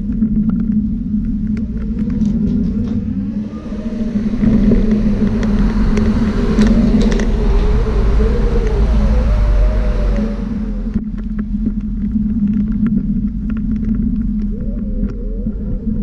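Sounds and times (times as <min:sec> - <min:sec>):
steady low hum: 0:00.0 - 0:16.0
wavering higher hum: 0:00.0 - 0:16.0
wheel rumble: 0:00.0 - 0:16.0
wind buffeting: 0:00.0 - 0:16.0.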